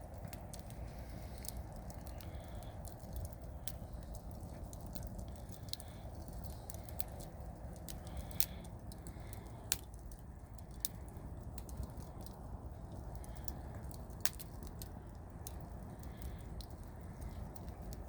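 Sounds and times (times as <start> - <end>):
campfire crackling and popping: 0.0 - 18.0
low steady rumble: 0.0 - 18.0.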